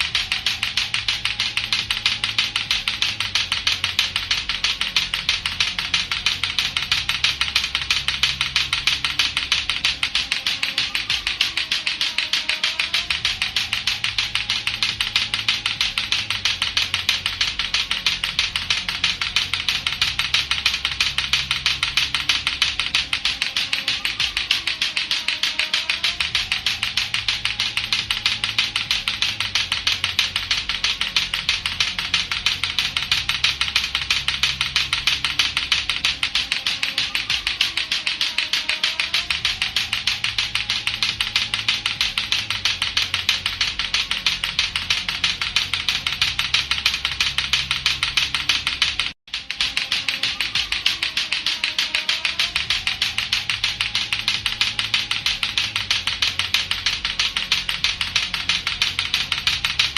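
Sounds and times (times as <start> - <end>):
low looping beat: 0.0 - 59.9
plastic clacker balls clacking: 0.0 - 59.9.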